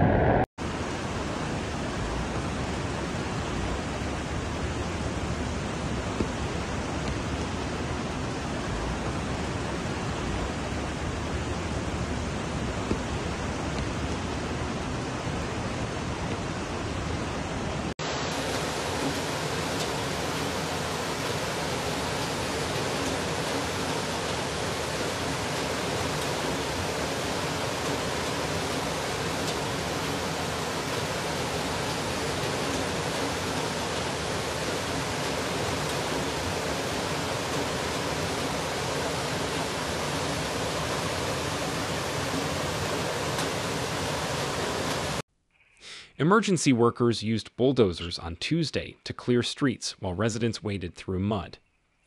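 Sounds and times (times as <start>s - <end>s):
rushing floodwater: 0.6s - 45.2s.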